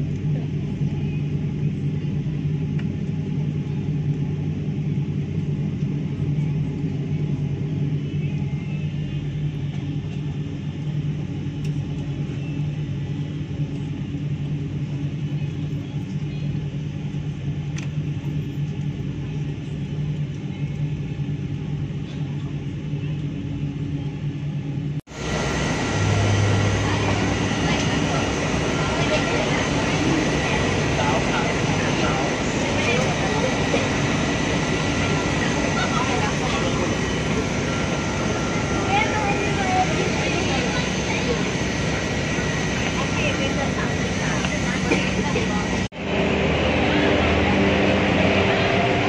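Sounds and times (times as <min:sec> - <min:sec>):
airliner cabin hum and rumble: 0:00.0 - 0:49.0.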